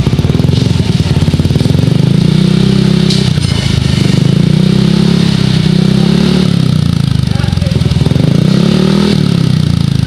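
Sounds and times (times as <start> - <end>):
scooter engine revving steadily: 0.0 - 10.0.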